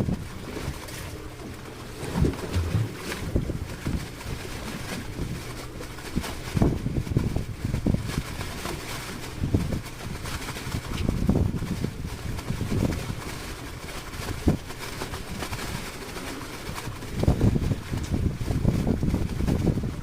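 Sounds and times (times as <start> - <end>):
boat engine humming: 0.0 - 20.0
wind gusting over microphone: 0.0 - 20.0.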